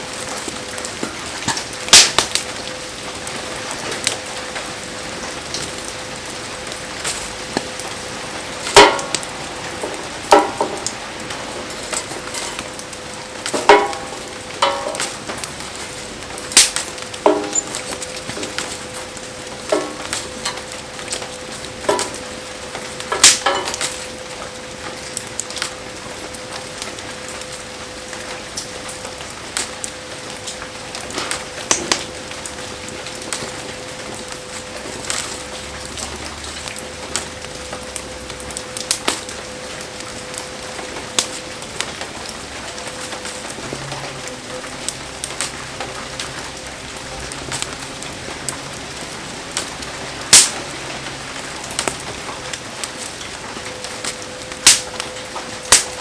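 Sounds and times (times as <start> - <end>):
bonfire crackling and popping: 0.0 - 56.0
rain pattering: 0.0 - 56.0
sizzling: 0.0 - 56.0.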